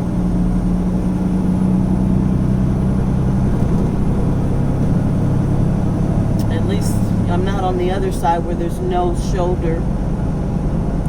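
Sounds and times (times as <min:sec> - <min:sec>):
diesel truck engine running: 0:00.0 - 0:11.0
road and tyre rumble: 0:00.0 - 0:11.0.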